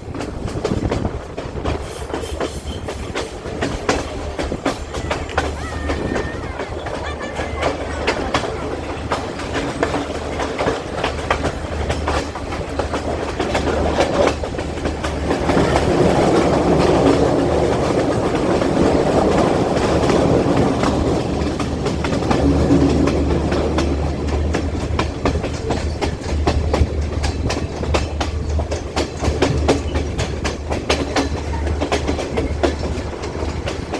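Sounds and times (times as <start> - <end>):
train rumble: 0.0 - 33.9
train wheels clicking over rail joints: 0.0 - 33.9.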